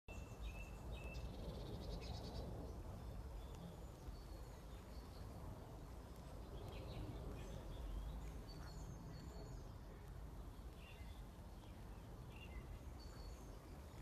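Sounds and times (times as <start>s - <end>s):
small birds chirping: 0.1s - 14.0s
low outdoor rumble: 0.2s - 14.0s.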